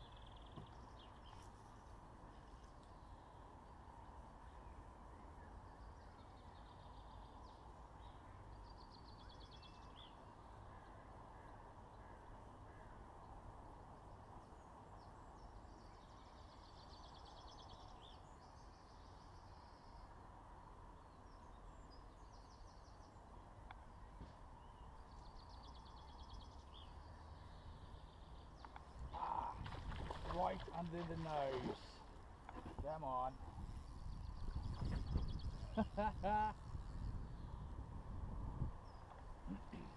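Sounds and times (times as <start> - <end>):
songbirds trilling: 0.0 - 20.3, 20.9 - 37.9.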